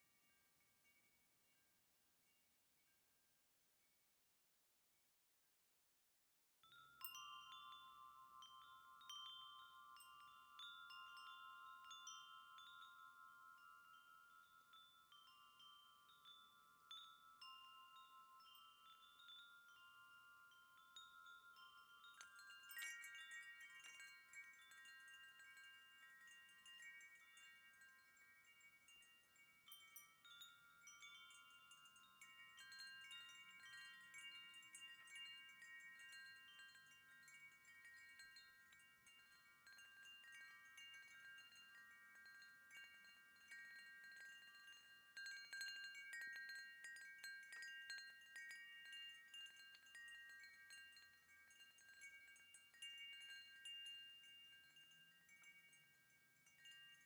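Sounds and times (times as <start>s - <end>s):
wind chime ringing: 6.7s - 57.0s.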